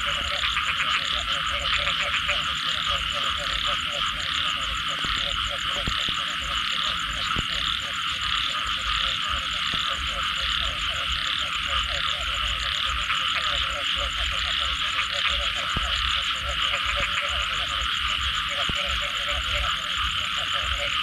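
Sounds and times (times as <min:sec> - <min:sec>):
chorus of frogs calling: 0:00.0 - 0:21.0
low croaking notes: 0:00.0 - 0:21.0.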